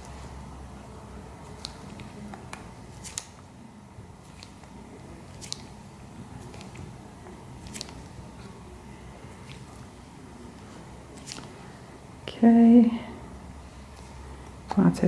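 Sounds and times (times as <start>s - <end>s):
low steady background: 0.0s - 15.0s.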